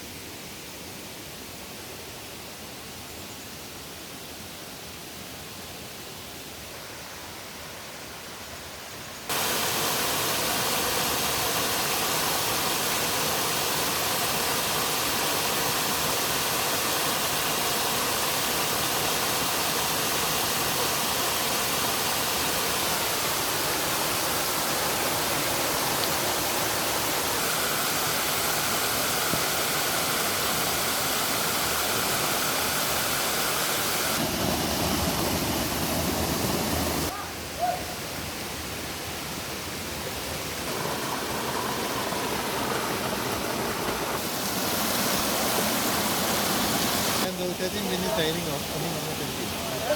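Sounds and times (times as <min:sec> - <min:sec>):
stream water rushing: 0:04.1 - 0:49.9.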